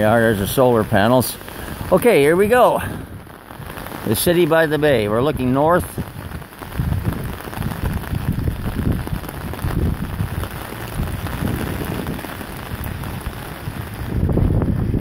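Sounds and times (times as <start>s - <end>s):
rain on an umbrella: 0.0s - 15.0s.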